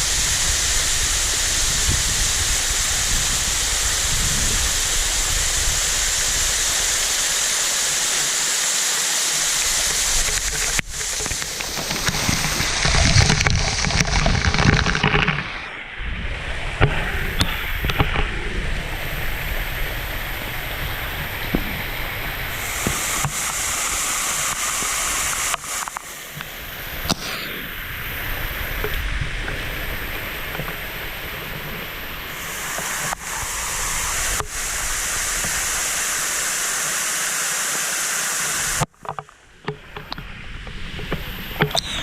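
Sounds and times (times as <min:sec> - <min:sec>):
waterfall rushing water: 0:00.0 - 0:42.0.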